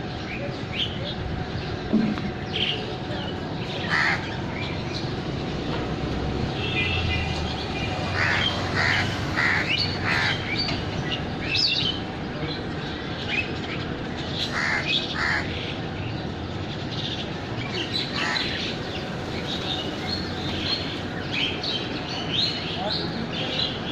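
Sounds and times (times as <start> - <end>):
harsh bird calls: 0.0 - 5.7, 6.4 - 23.9.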